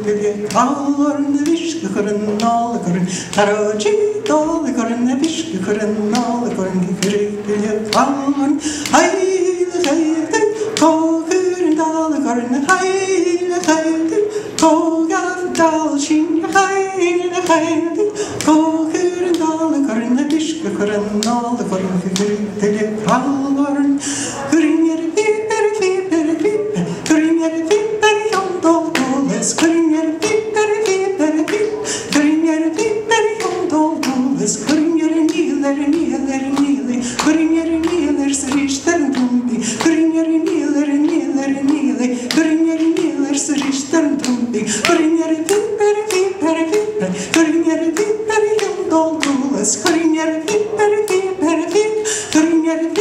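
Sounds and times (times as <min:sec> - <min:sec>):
woman singing unaccompanied: 0:00.0 - 0:53.0.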